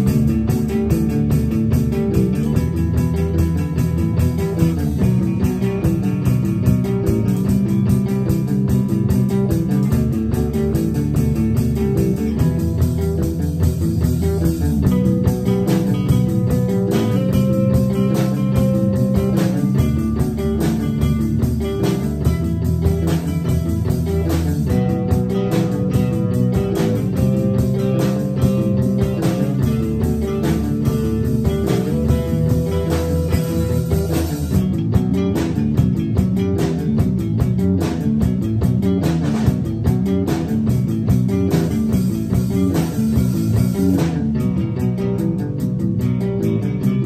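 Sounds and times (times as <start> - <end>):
rock band playing instrumental: 0.0 - 47.0.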